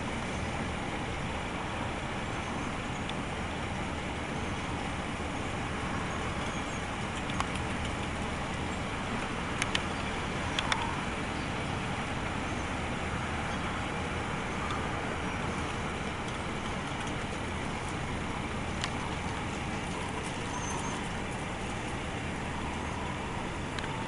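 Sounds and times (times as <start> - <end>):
distant vehicles rumbling: 0.0 - 24.0.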